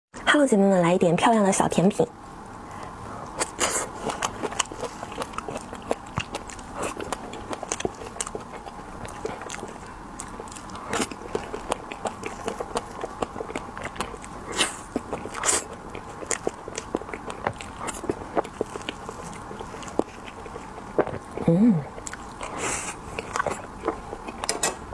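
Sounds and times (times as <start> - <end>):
fruit being chewed: 2.7 - 24.5.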